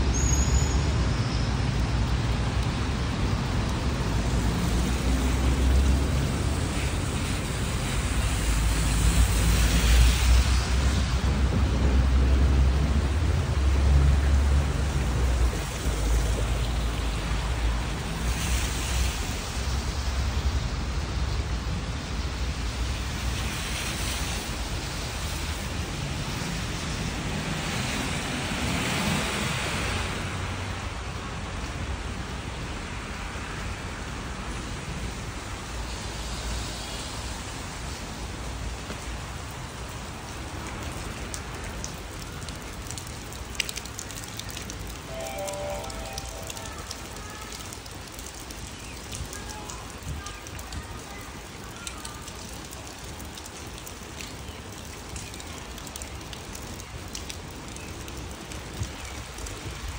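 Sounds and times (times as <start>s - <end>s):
rain on wet pavement: 0.0s - 59.9s.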